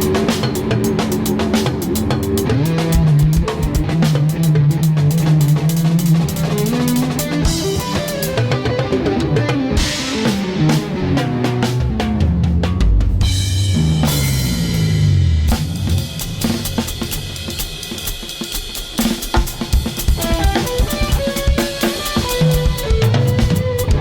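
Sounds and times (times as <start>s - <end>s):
guitar: 0.0s - 17.3s, 19.4s - 24.0s
drum kit strikes: 0.0s - 24.0s.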